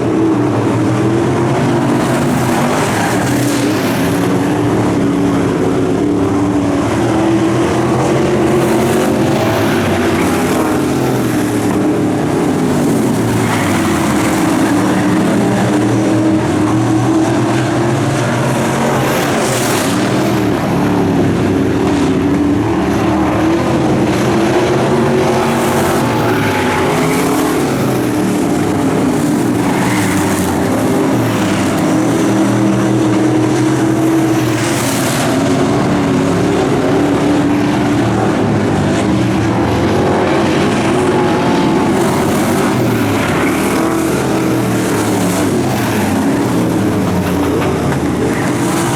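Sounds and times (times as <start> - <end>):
race car engines: 0.0 - 48.9.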